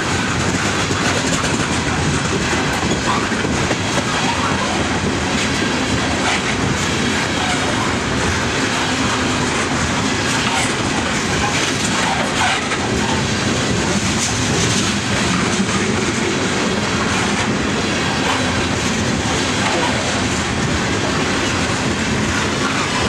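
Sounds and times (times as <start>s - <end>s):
train wheels rumbling on rail: 0.0s - 23.0s
wheels clicking over rail joints: 0.2s - 23.0s.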